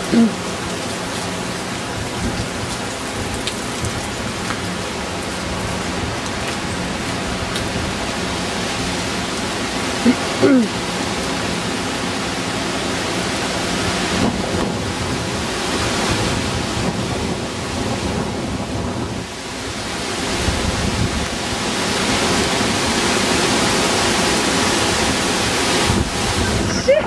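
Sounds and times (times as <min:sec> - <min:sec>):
heavy rain: 0:00.0 - 0:27.0
storm wind: 0:00.0 - 0:27.0.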